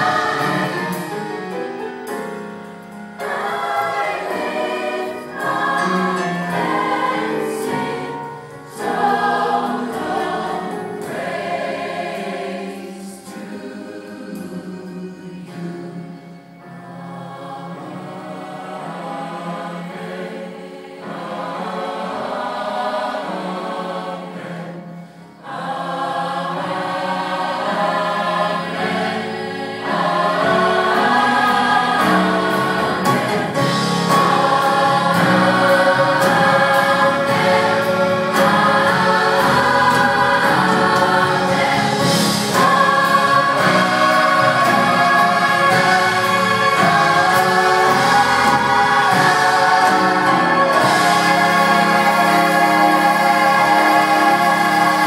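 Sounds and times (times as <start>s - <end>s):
mixed choir singing in harmony: 0.0s - 55.0s.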